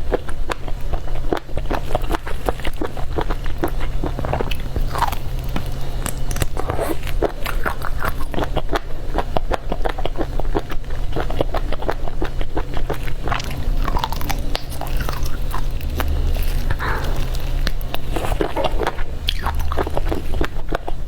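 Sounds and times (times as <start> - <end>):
person chewing with mouth clicks: 0.0 - 21.0.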